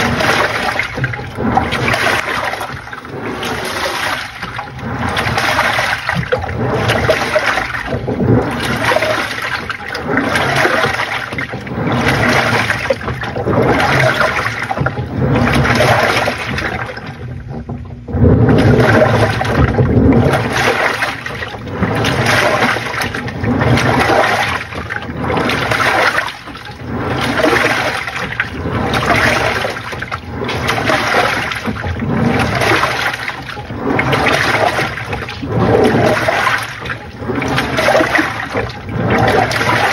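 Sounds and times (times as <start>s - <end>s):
washing machine agitating: 0.0s - 39.9s
water sloshing: 0.0s - 39.9s.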